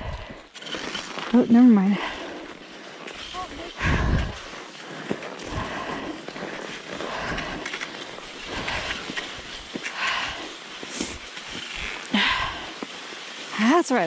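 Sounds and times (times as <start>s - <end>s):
ski poles planting in snow: 0.1s - 14.0s
skis scraping over snow: 0.5s - 14.0s.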